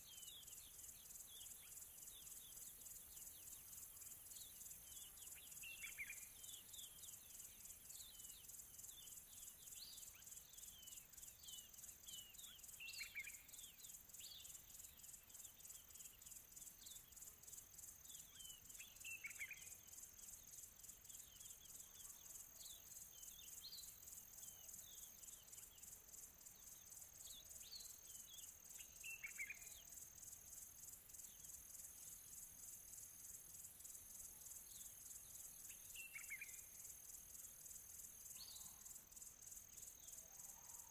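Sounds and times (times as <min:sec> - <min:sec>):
high-pitched insect trill: 0:00.0 - 0:40.9.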